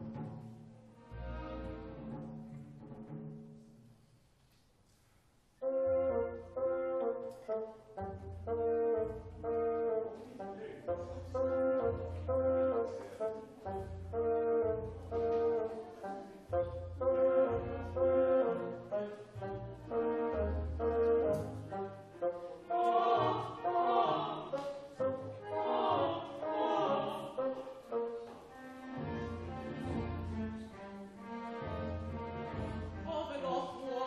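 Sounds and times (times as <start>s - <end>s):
orchestra playing short chords: 5.6s - 33.2s.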